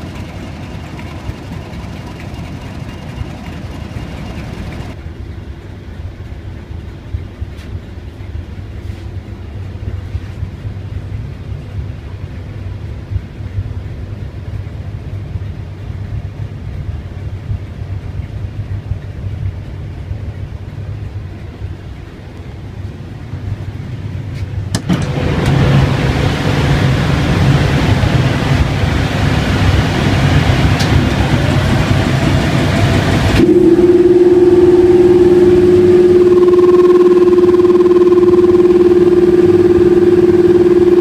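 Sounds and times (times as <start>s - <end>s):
diesel locomotive idling: 0.0s - 41.0s
loud steady hum: 0.0s - 41.0s.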